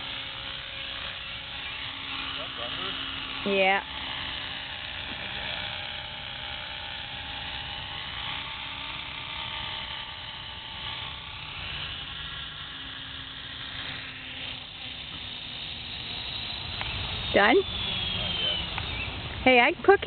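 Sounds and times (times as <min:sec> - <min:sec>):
model helicopter whine: 0:00.0 - 0:20.0.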